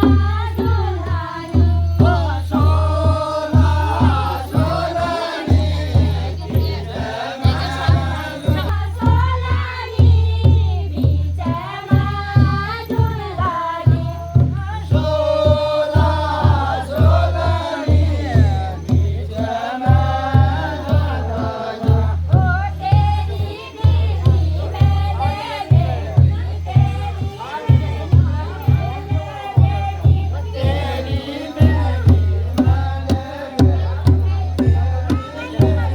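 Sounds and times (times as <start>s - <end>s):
group of voices singing: 0.0s - 35.9s
steady drum beat: 0.0s - 35.9s.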